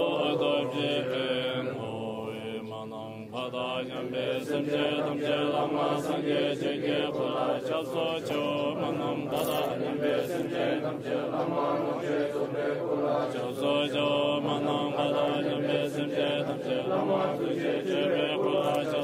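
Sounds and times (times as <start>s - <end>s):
person chanting prayers: 0.0s - 19.0s.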